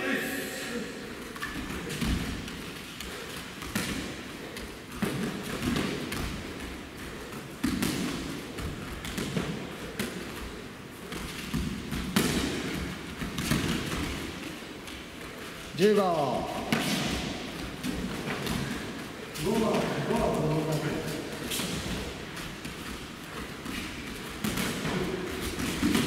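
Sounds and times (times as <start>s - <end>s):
bare feet stamping on mats: 1.4s - 15.7s, 16.5s - 26.0s.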